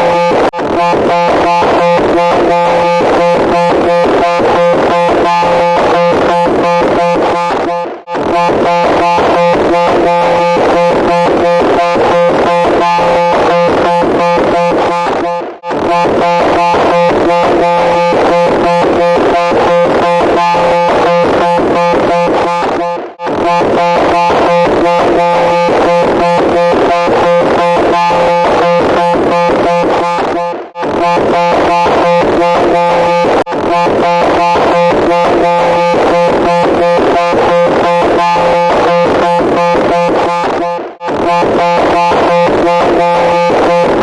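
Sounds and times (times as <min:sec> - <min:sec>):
harsh electronic buzzing pulses: 0:00.0 - 0:44.0.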